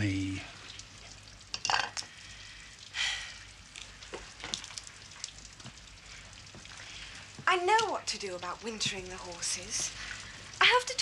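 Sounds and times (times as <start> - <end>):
rain pattering: 0.0 - 11.0
water drips: 0.0 - 11.0.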